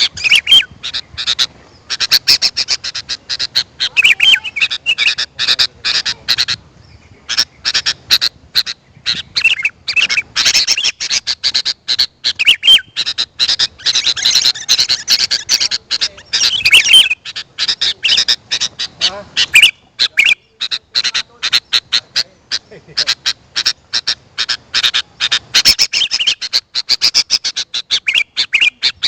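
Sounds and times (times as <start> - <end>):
bird chattering and warbling: 0.0 - 29.0.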